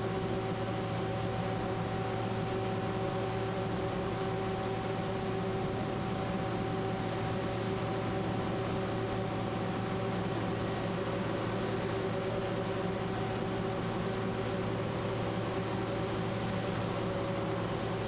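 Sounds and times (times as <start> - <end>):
steady hum with held tones: 0.0 - 18.0.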